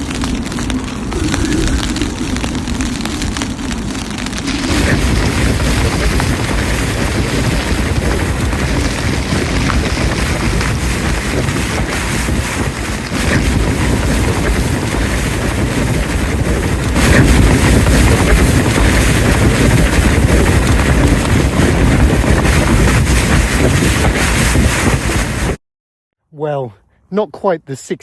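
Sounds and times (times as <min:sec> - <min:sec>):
strong wind buffeting microphone: 0:00.0 - 0:25.6.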